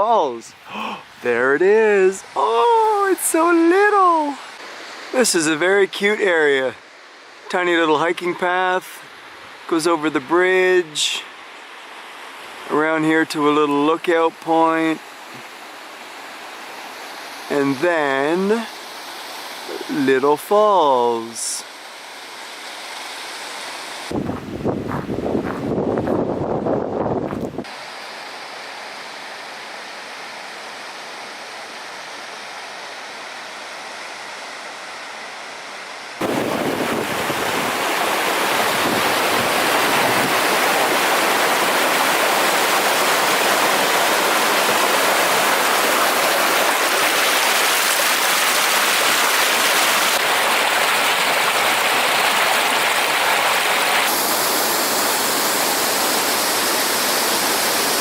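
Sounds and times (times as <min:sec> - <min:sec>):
small waterfall rushing: 0:00.0 - 0:24.2, 0:27.6 - 0:58.0.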